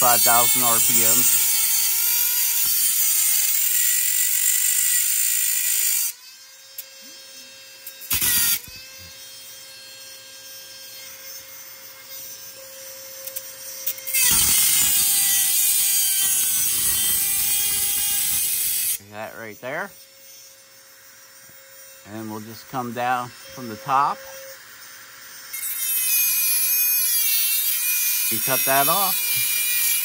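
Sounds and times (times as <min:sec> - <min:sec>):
cutoff wheel grinding steel blade: 0:00.0 - 0:30.0.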